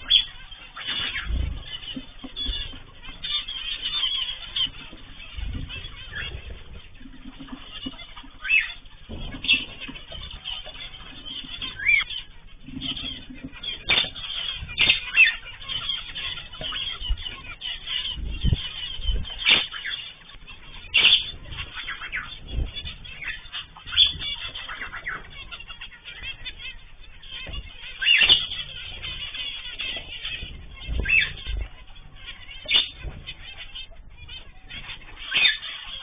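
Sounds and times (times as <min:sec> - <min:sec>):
cage birds chirping: 0:00.0 - 0:36.0
wing flapping: 0:00.0 - 0:36.0.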